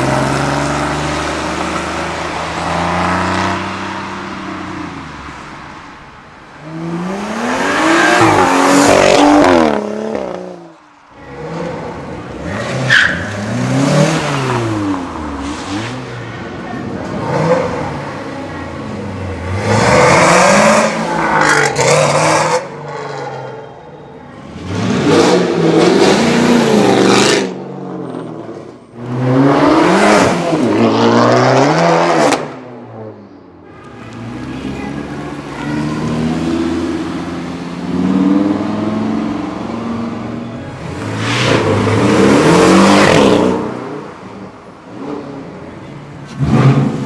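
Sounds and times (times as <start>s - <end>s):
cars accelerating hard: 0.0s - 5.4s, 6.6s - 23.5s, 24.5s - 33.0s, 34.2s - 45.6s, 46.3s - 47.0s.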